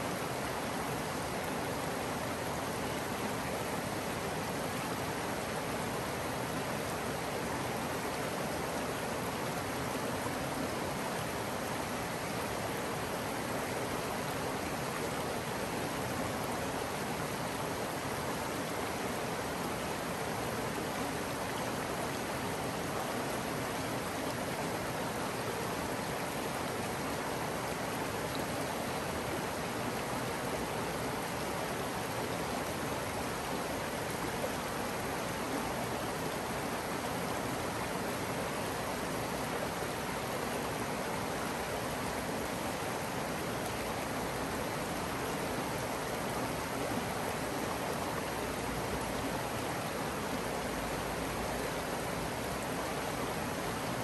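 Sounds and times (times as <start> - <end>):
creek water running: 0.0 - 54.0.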